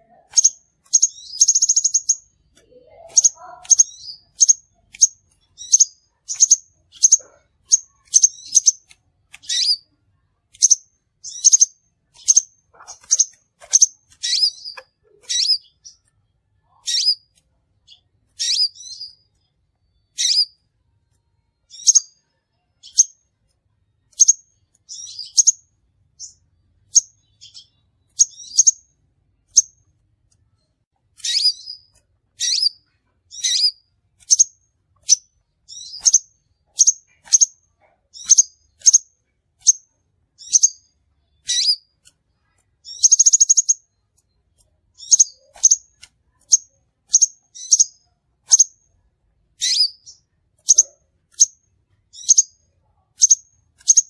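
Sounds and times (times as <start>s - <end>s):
bird chirping high: 0.0s - 20.7s, 21.6s - 23.2s, 24.1s - 29.9s, 31.2s - 44.3s, 44.9s - 48.9s, 49.6s - 54.0s.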